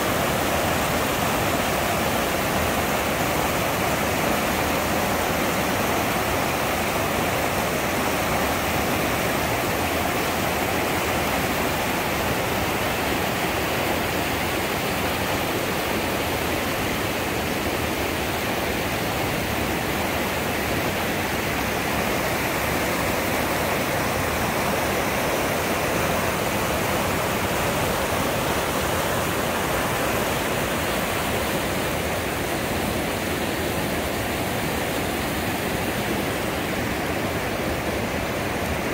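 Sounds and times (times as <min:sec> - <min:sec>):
creek rapids roaring: 0:00.0 - 0:38.9.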